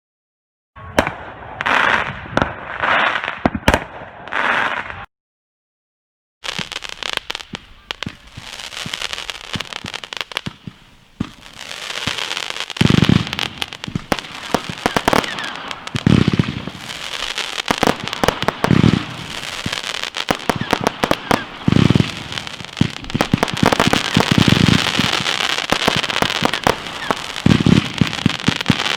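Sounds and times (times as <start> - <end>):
deep firework booms: 0.8 - 2.8, 6.5 - 28.9
fireworks crackling and popping: 1.0 - 5.1, 6.4 - 28.9.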